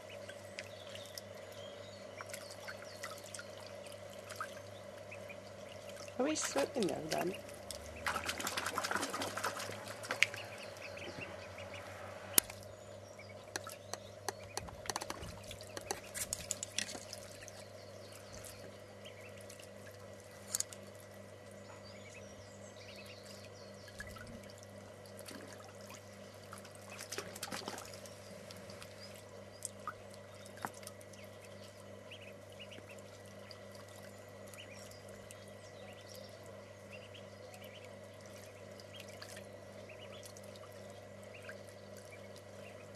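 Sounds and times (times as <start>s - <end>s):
ducklings splashing in water: 0.0s - 42.9s
faint steady hum: 0.0s - 42.9s.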